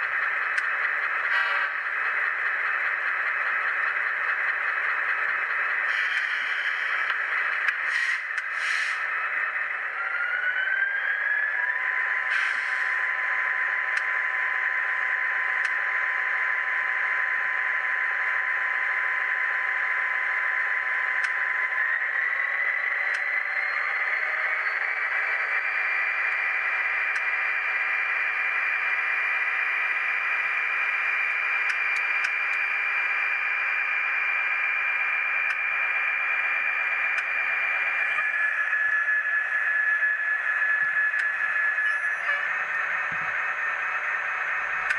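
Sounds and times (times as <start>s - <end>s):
tinny diesel locomotive engine: 0.0s - 44.9s.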